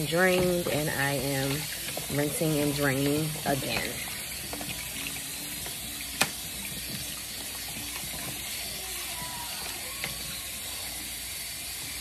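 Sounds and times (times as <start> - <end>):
water running in sink: 0.0 - 12.0.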